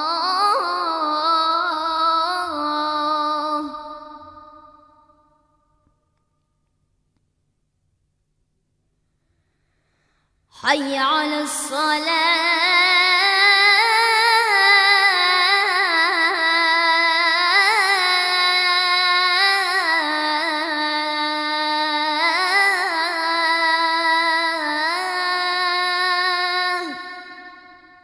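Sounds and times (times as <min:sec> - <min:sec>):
boy chanting call to prayer: 0:00.0 - 0:05.2, 0:10.5 - 0:28.0.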